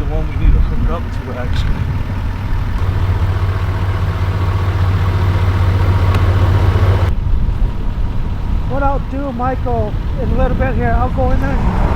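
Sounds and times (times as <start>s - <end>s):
truck engine idling: 0.0s - 11.9s.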